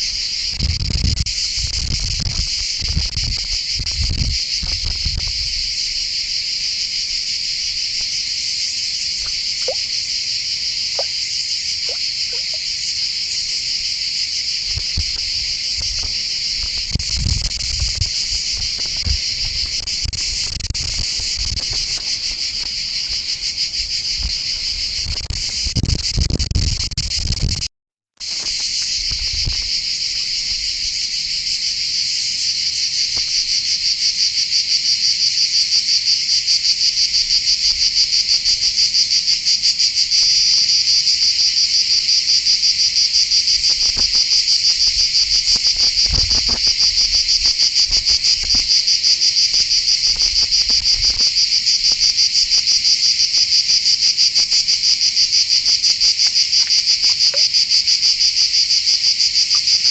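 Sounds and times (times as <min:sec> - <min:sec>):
insect chorus chirring: 0:00.0 - 0:27.6, 0:28.2 - 0:59.9.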